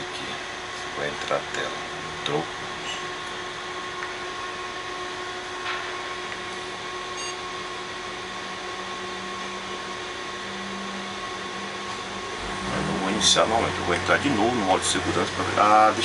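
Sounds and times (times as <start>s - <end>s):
constant hum: 0.0s - 16.0s
fans whirring: 0.0s - 16.0s.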